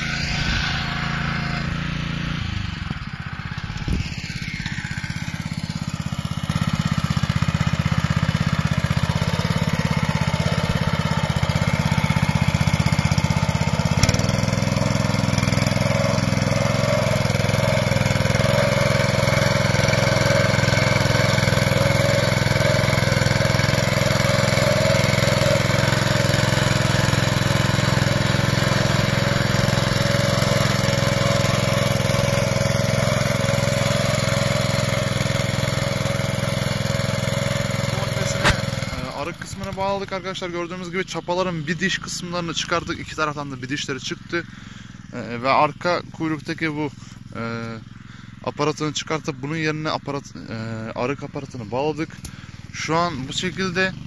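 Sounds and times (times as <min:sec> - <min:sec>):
tiller engine running: 0:00.0 - 0:54.0.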